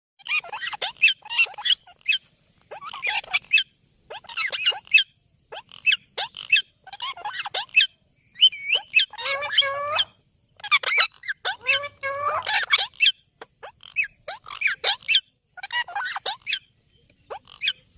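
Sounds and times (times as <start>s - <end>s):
parrot warbling call: 0.2s - 16.7s
parrot squawking and chattering: 0.2s - 17.9s.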